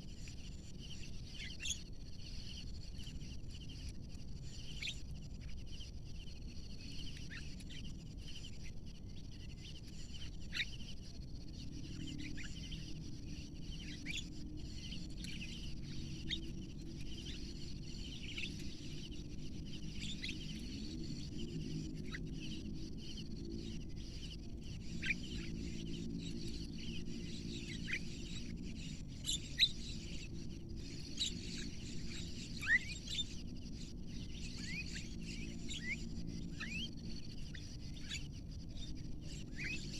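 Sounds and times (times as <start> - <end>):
faint low drone: 0.0 - 39.9
birds chirping: 0.2 - 39.9.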